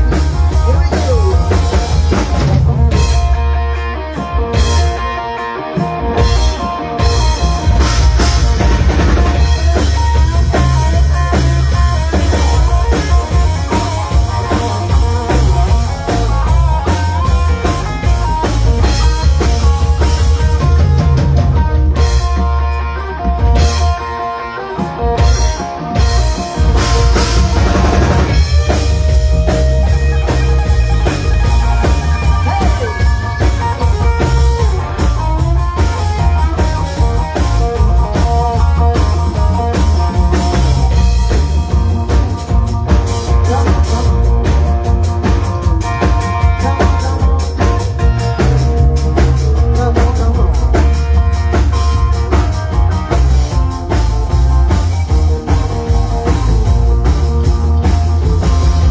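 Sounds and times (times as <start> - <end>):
bass drum: 0.0 - 3.8, 7.1 - 22.6, 25.4 - 58.9
heavy bass line: 0.0 - 5.1, 6.2 - 24.0, 25.2 - 58.9
drum rimshots: 0.0 - 58.9
guitar: 0.0 - 58.9.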